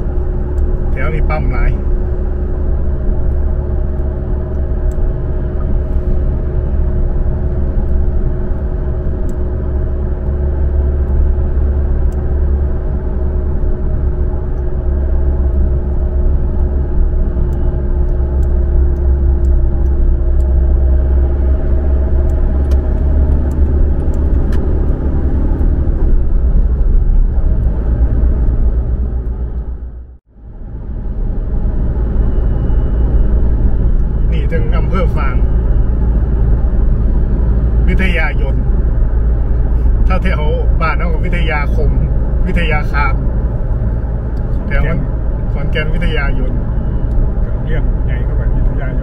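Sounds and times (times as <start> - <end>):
tyre and engine rumble: 0.0 - 49.0.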